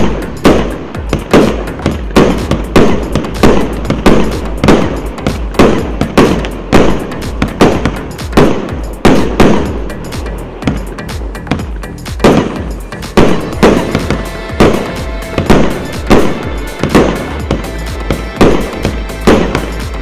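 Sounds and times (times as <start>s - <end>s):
fireworks launch bangs: 0.0s - 20.0s
fireworks shells bursting overhead: 0.0s - 20.0s.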